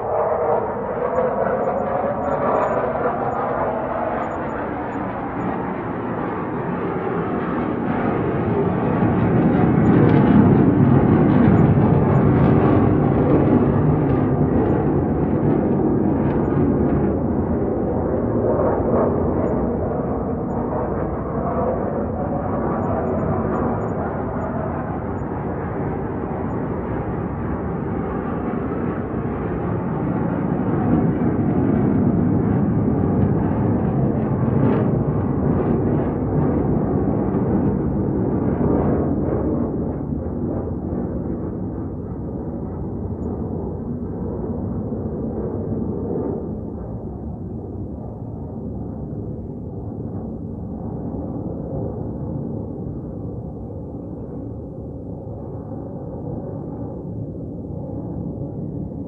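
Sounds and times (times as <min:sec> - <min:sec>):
military aircraft rumble overhead: 0:00.0 - 0:59.0.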